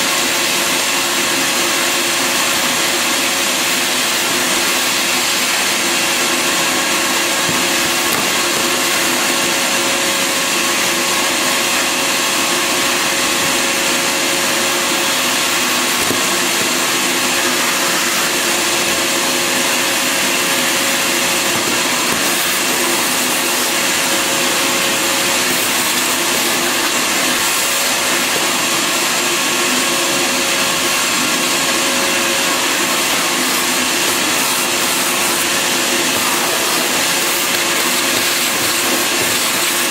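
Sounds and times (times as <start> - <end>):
shop vacuum motor whine: 0.0 - 39.9.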